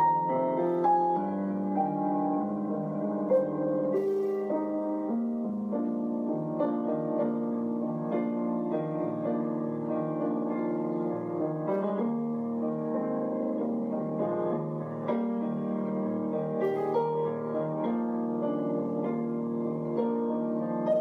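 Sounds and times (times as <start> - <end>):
piano background music: 0.0 - 21.0.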